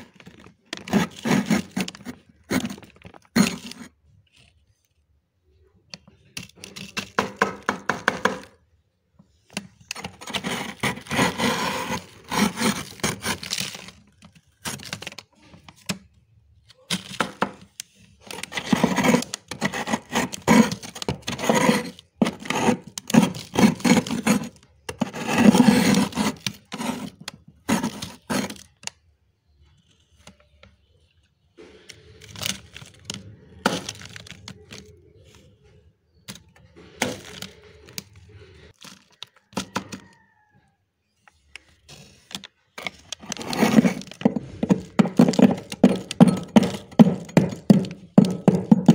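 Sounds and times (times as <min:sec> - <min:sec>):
spoon scraping frost in freezer: 0:00.0 - 0:05.2, 0:09.5 - 0:15.9, 0:16.8 - 0:40.3, 0:41.4 - 0:48.9.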